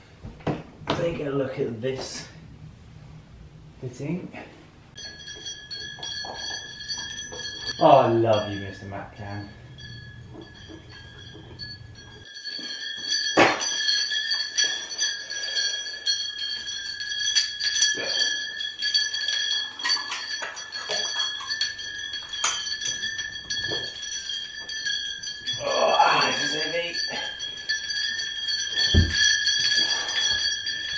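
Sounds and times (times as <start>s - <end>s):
steady high ringing: 0.9s - 30.9s
glass chandelier drops clinking: 5.0s - 30.9s.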